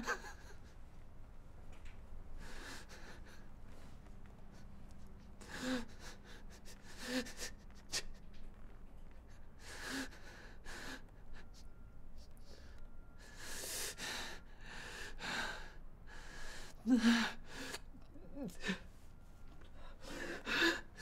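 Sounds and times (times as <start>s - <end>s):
man breathing heavily: 2.4s - 8.4s, 9.2s - 17.9s, 18.5s - 21.0s.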